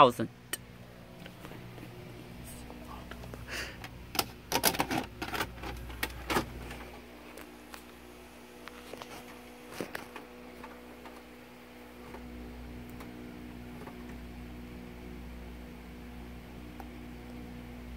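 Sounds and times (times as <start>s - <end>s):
faint electrical hum: 0.0s - 17.9s.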